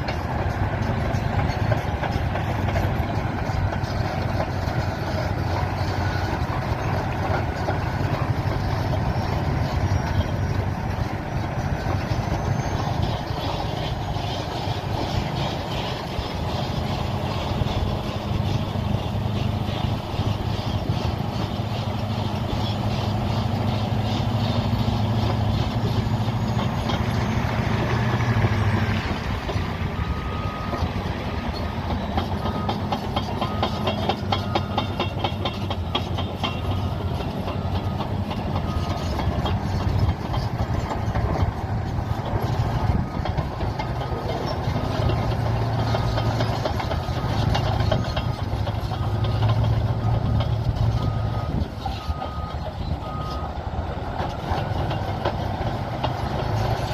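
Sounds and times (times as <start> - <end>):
bulldozer diesel engine droning: 0.0 - 56.9.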